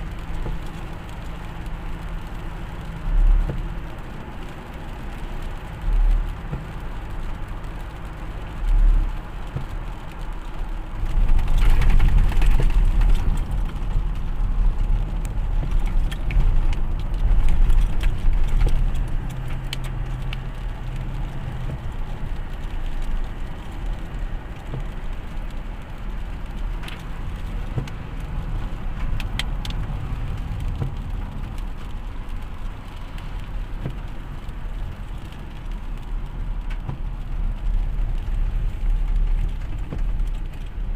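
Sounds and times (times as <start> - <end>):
engine and road rumble: 0.0 - 40.9
small clicks and rattles: 0.2 - 40.9.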